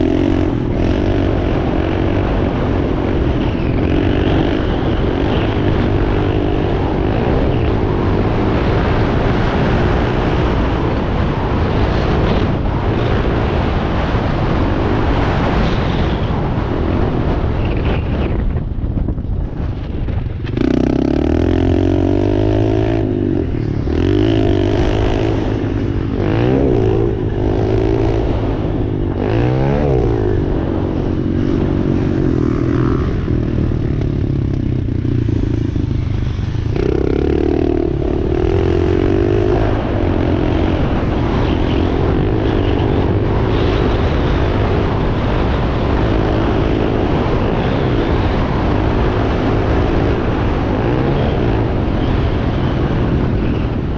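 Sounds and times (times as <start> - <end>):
dirt bike engine revving: 0.0 - 15.8, 20.4 - 53.9
wind: 0.0 - 53.9.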